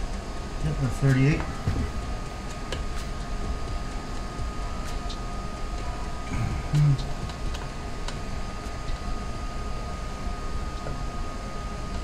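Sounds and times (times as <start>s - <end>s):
machine hum with high whine: 0.0s - 12.0s.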